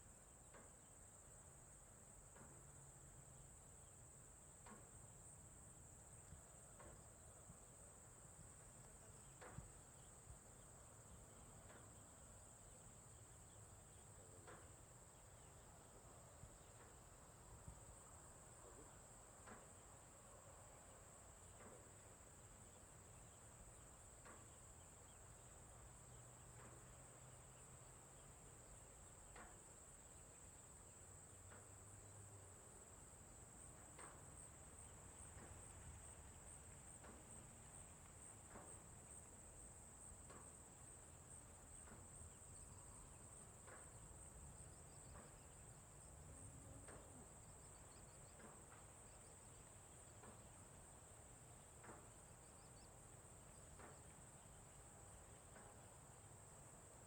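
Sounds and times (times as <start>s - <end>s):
cricket chorus: 0.0s - 57.0s.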